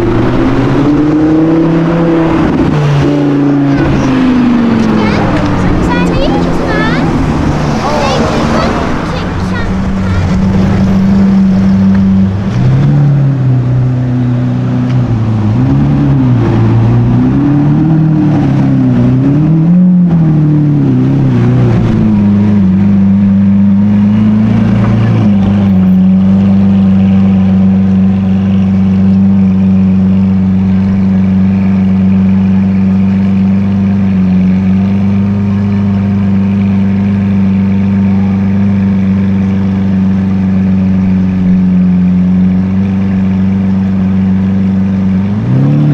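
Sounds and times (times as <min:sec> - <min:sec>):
sports car engine running: 0:00.0 - 0:45.9.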